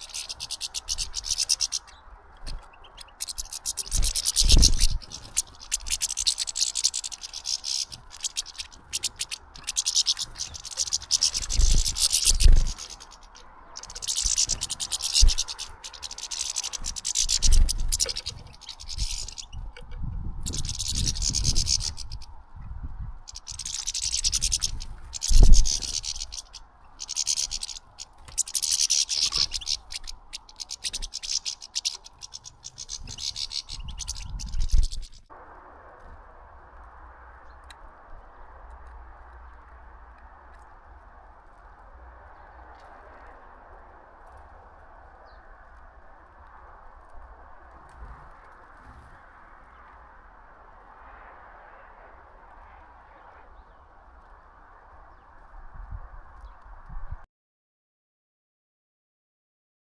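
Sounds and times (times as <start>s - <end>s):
birds scratching at seed feeder: 0.0s - 22.4s, 23.2s - 35.2s, 36.5s - 50.2s.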